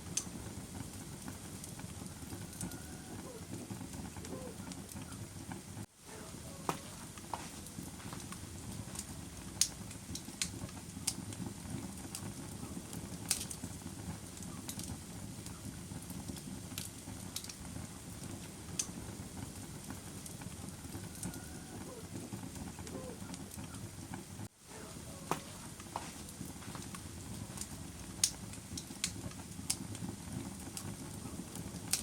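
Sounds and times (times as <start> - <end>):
fire crackling and popping: 0.0 - 32.0
wood fire rumbling: 0.0 - 32.0.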